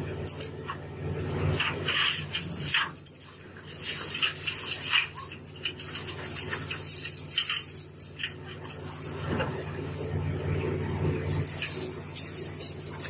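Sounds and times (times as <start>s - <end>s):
boat engine humming: 0.0s - 13.0s
water splashing and sloshing: 1.3s - 13.0s.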